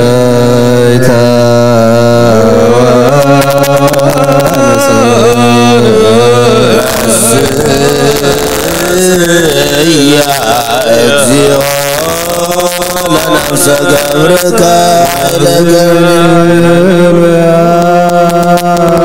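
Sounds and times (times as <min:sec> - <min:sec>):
steady low tone: 0:00.0 - 0:17.8
priests chanting a hymn: 0:00.0 - 0:19.0.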